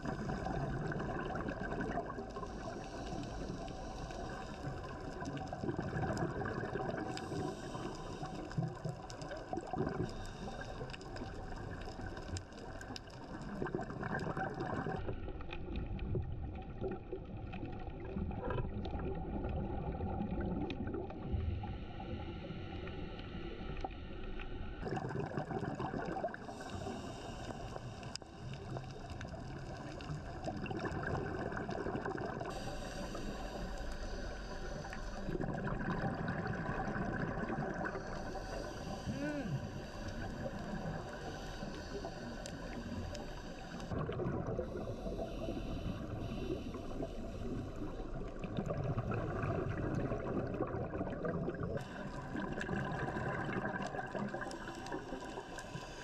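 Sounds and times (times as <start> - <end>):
muffled underwater water wash: 0.0 - 56.0.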